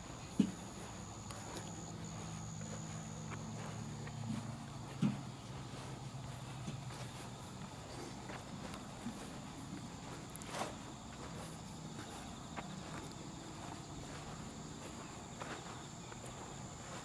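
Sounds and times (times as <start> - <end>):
footsteps on grass: 0.0 - 17.0.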